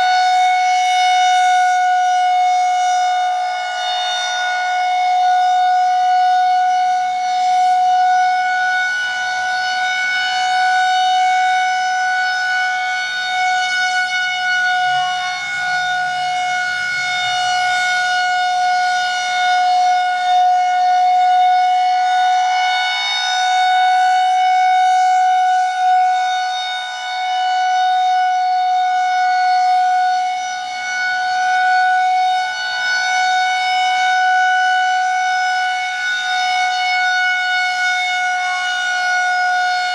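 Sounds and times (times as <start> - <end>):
rotating siren steady tone: 0.0 - 39.9.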